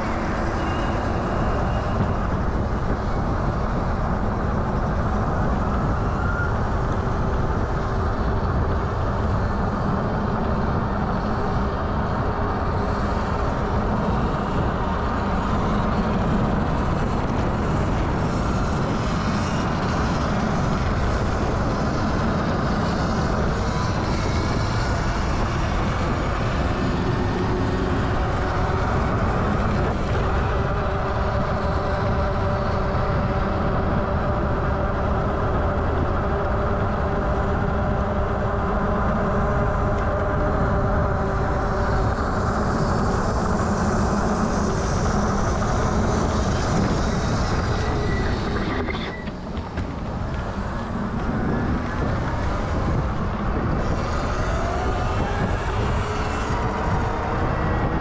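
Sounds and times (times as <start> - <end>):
road noise: 0.0 - 58.0
wind rush on microphone: 0.0 - 58.0.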